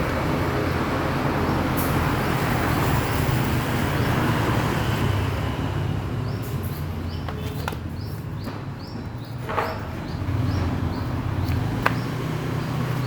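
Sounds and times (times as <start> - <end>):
engine rumble: 0.0 - 13.0.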